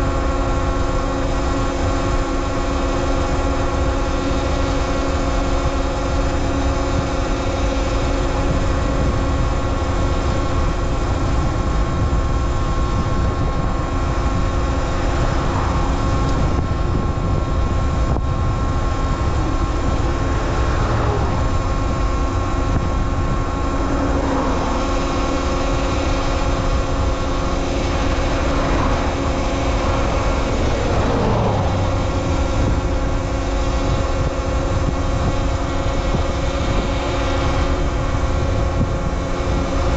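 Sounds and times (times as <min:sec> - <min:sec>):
electric dirt bike motor whine: 0:00.0 - 0:39.9
low rumble: 0:00.0 - 0:39.9.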